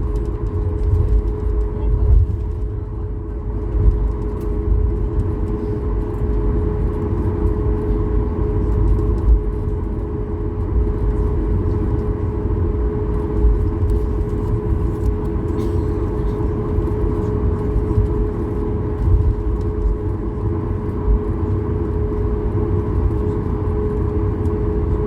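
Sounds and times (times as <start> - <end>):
airplane cabin engine hum: 0.0 - 25.0.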